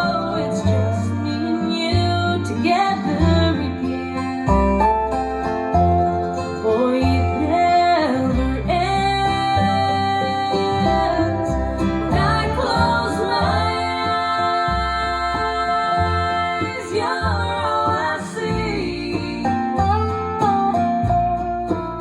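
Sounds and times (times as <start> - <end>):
gliding held melody line: 0.0 - 20.4
bass line: 0.0 - 22.0
plucked guitar: 0.0 - 22.0.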